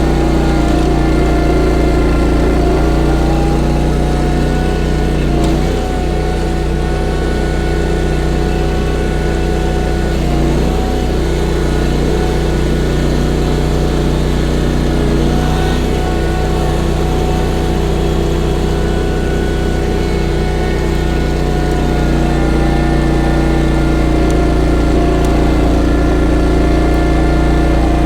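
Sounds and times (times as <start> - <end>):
engine running at high rpm: 0.0 - 28.0.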